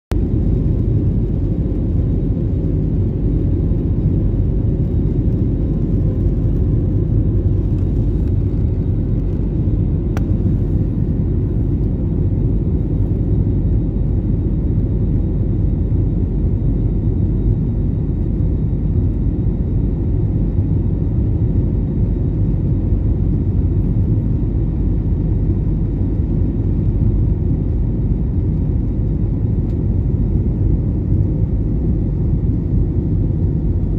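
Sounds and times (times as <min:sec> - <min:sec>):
faint steady whine: 0:00.1 - 0:33.9
jet engine and airflow rumble: 0:00.1 - 0:33.9.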